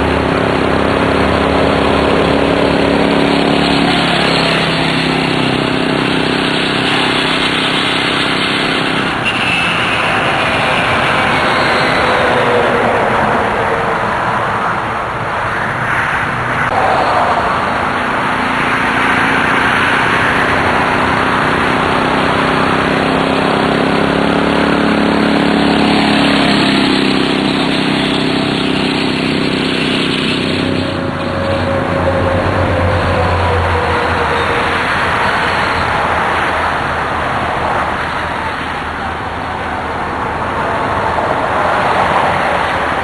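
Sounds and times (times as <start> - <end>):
lawn mower engine running: 0.0 - 12.6, 16.7 - 43.0.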